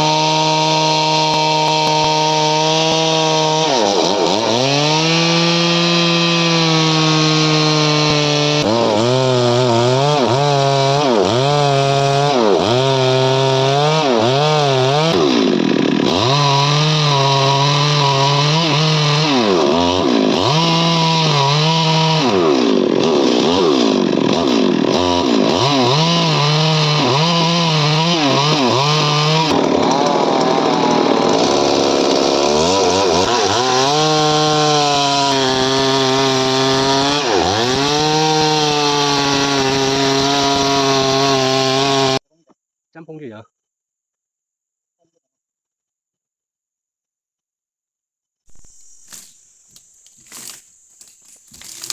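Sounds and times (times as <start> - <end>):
chainsaw cutting wood: 0.0 - 42.2, 48.5 - 51.9.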